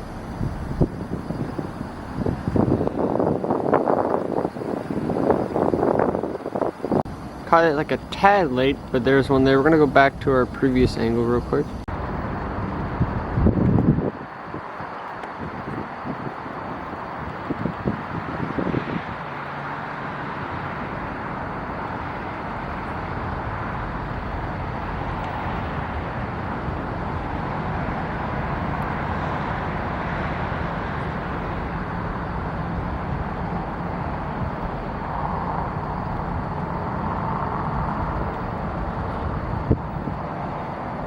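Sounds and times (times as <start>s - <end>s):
passing vehicle traffic: 0.0s - 41.0s.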